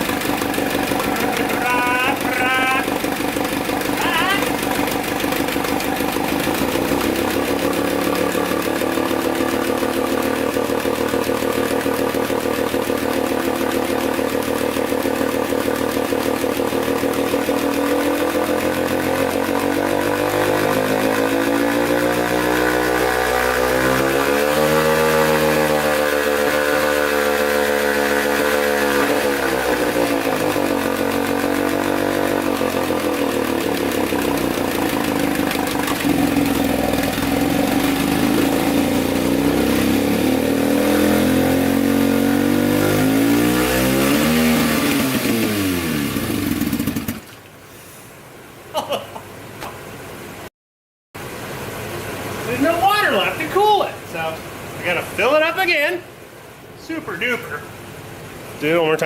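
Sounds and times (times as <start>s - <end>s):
outboard motor running: 0.0s - 48.6s.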